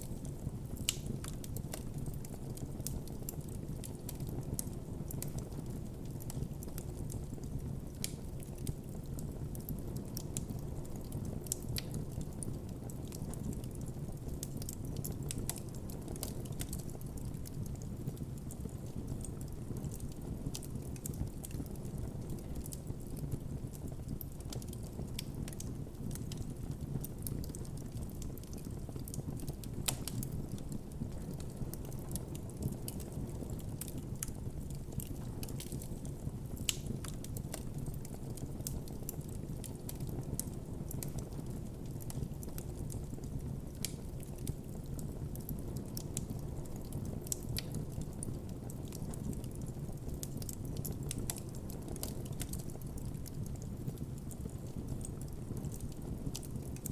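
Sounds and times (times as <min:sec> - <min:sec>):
fire crackles and pops: 0:00.0 - 0:56.9
low rumble of flames: 0:00.0 - 0:56.9.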